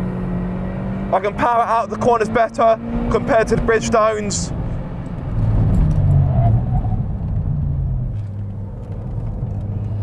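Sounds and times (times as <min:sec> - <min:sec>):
car engine accelerating hard: 0:00.0 - 0:10.0
tyre and road noise: 0:00.0 - 0:10.0.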